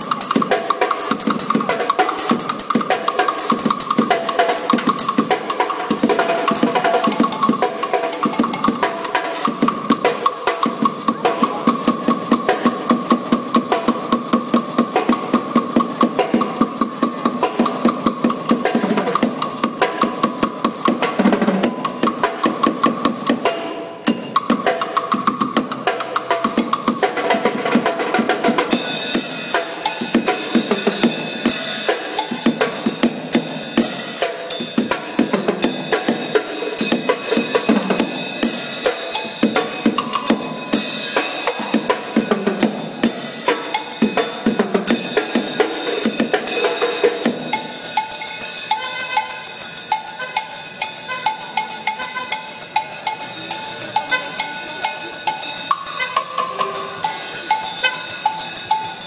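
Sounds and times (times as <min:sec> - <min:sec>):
drum kit played fast: 0:00.0 - 0:59.0.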